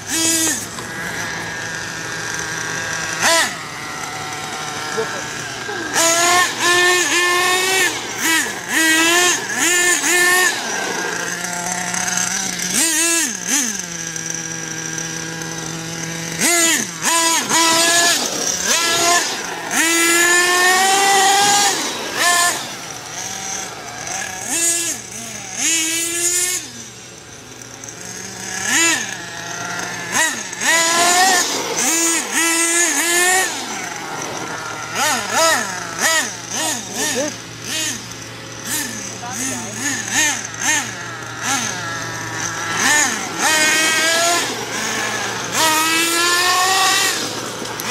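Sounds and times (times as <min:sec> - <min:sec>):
toy car motor revving: 0:00.0 - 0:47.9.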